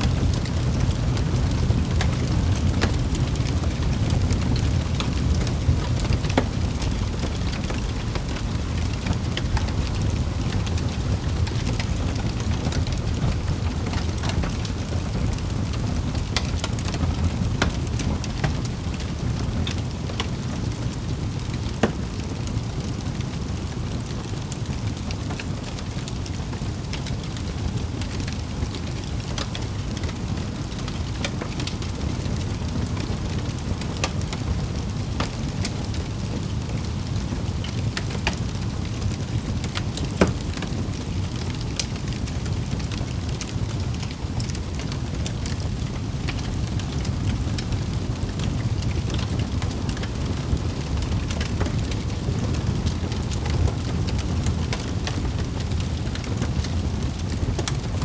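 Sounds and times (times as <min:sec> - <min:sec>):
low rumble of flames: 0:00.0 - 0:58.0
wood fire pops and snaps: 0:00.0 - 0:58.0.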